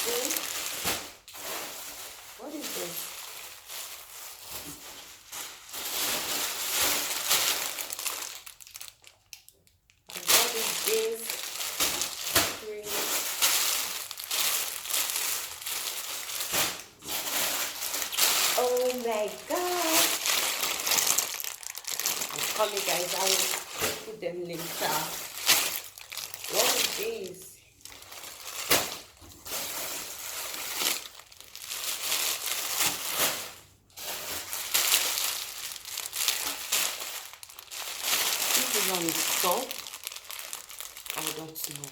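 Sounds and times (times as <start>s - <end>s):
packaging rustling and crinkling: 0.0s - 41.9s.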